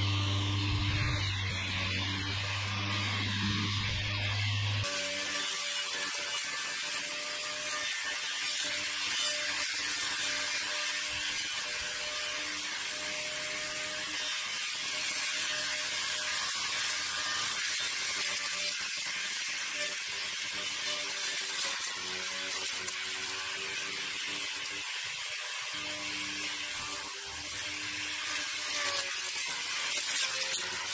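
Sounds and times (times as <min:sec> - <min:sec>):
electric motor whining: 0:00.0 - 0:30.9
trimmer head cutting grass: 0:00.0 - 0:30.9.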